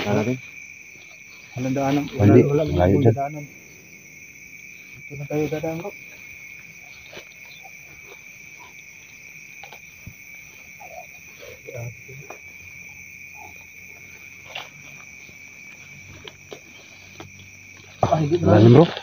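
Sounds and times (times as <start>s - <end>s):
crickets and night insects chirping: 0.0s - 19.0s.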